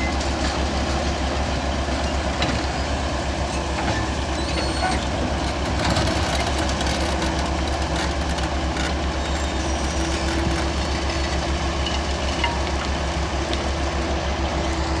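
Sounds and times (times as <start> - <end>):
large engine running: 0.0 - 15.0.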